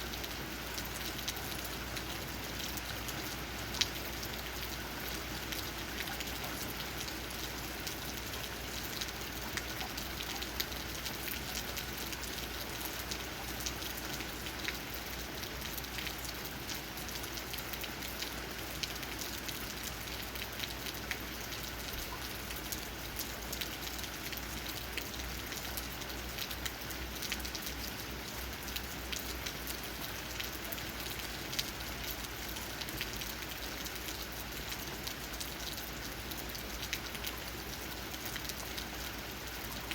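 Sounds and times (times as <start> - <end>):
rain drops tapping on leaves: 0.0 - 39.9.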